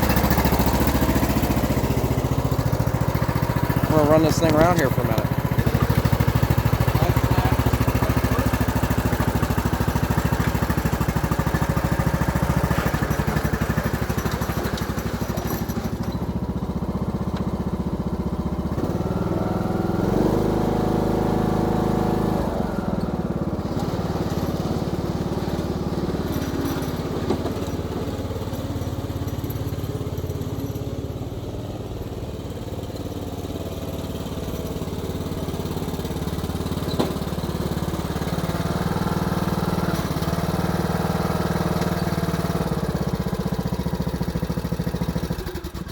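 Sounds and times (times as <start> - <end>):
riding mower engine running: 0.0 - 45.9.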